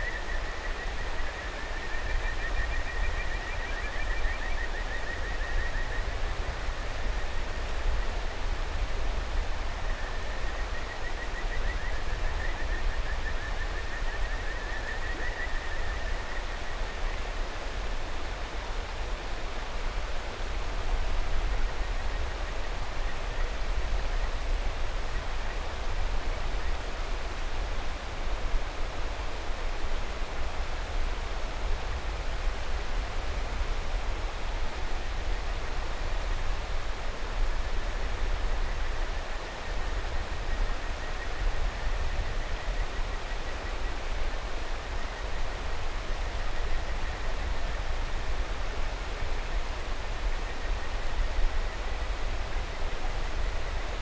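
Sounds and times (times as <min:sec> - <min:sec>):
rushing river: 0:00.0 - 0:54.0.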